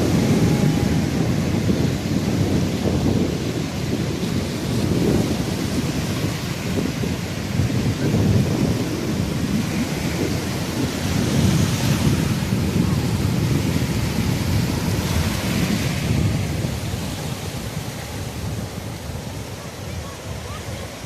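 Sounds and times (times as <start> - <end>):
sea surf: 0.0 - 21.0
wind buffeting microphone: 0.0 - 21.0.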